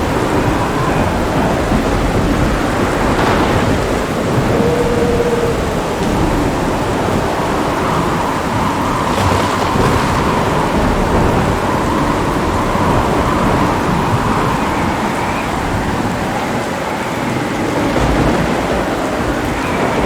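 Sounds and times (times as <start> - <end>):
heavy rain pouring: 0.0 - 20.0
thunder rumbling: 0.0 - 20.0.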